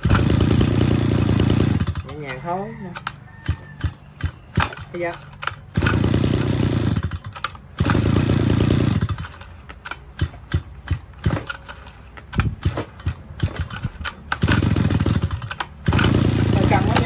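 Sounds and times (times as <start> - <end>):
recoil starter rope pull: 0.0 - 17.0
starter clicks and knocks: 1.5 - 6.1, 7.0 - 8.2, 8.8 - 17.0.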